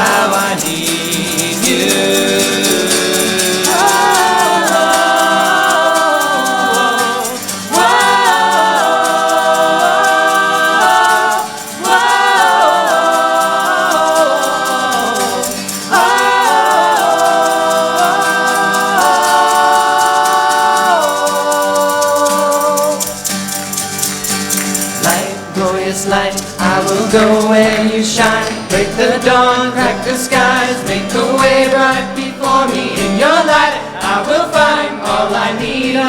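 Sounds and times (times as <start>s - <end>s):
choir singing in harmony: 0.0s - 36.0s.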